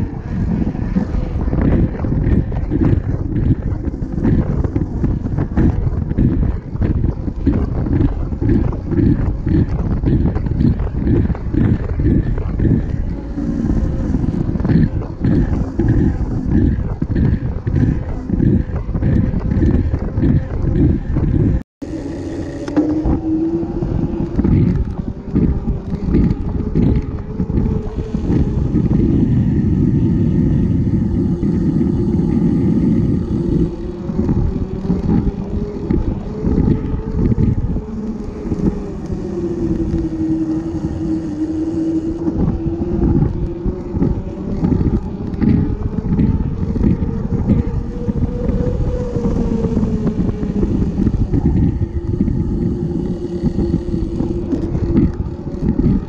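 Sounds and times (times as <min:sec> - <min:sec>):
hum rising and falling in pitch: 0:00.0 - 0:56.0
wind buffeting microphone: 0:00.0 - 0:56.0.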